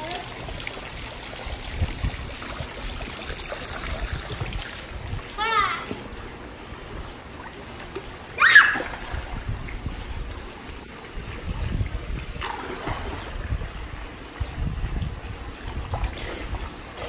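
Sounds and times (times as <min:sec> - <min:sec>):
water splashing in pool: 0:00.0 - 0:17.0.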